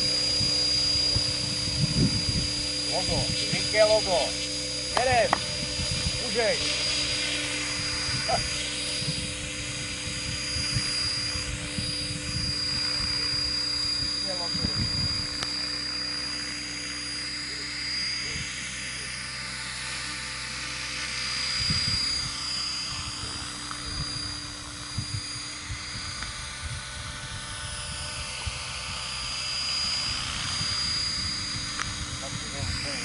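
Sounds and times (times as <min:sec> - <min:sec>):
helicopter rotor: 0:00.0 - 0:33.0
rc helicopter motor whine: 0:00.0 - 0:33.0.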